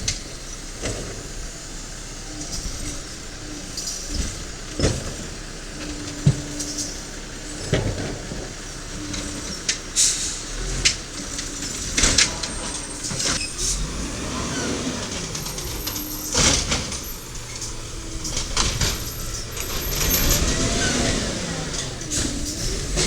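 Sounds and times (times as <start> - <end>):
garbage truck diesel engine running: 0.0 - 23.0.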